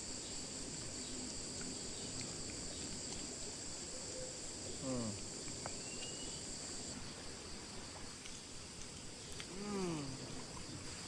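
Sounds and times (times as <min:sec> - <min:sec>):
insects chorus drone: 0:00.0 - 0:11.0.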